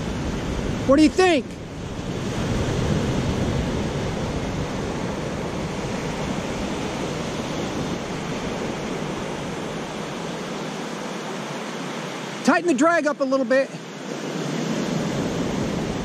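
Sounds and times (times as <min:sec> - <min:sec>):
ocean surf washing onto beach: 0:00.0 - 0:16.0.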